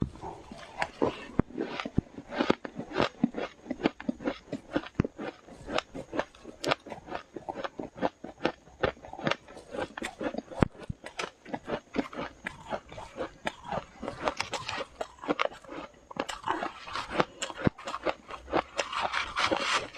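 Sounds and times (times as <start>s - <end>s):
chewing crunchy frost: 0.0s - 19.9s.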